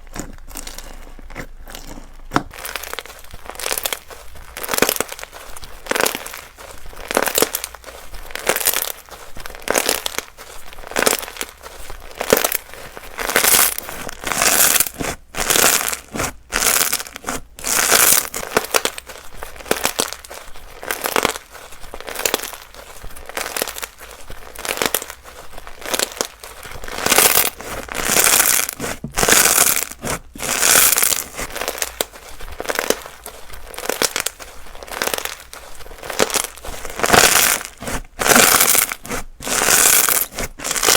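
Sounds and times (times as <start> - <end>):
slime squishing: 0.0 - 40.9.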